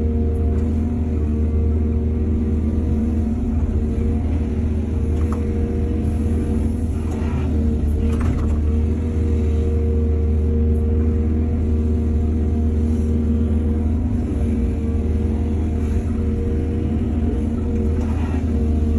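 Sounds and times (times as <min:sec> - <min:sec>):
diesel engine rumbling: 0:00.0 - 0:18.9.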